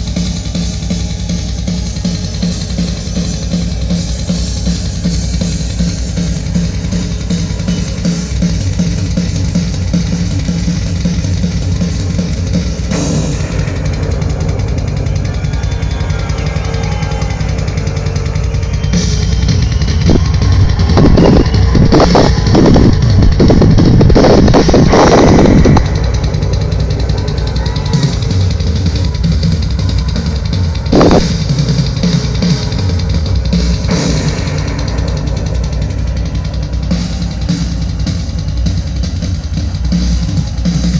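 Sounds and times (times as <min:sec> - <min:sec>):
cymbal crash: 0:00.0 - 0:40.9
rock music through speaker: 0:00.0 - 0:40.9.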